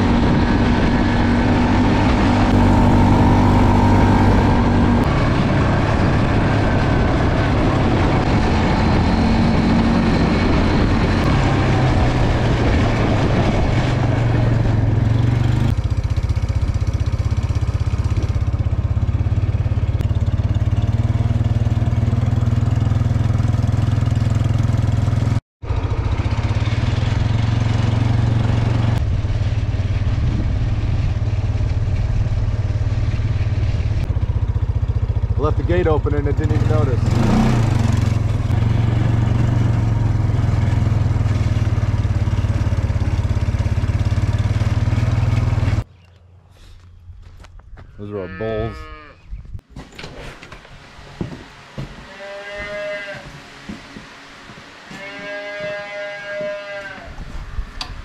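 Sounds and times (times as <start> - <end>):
atv engine running: 0.0 - 58.0
tyres on dirt road: 0.0 - 58.0.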